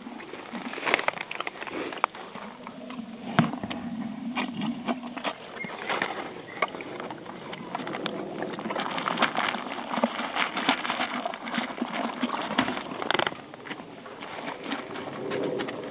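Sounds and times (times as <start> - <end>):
horses crunching popcorn: 0.0 - 15.9.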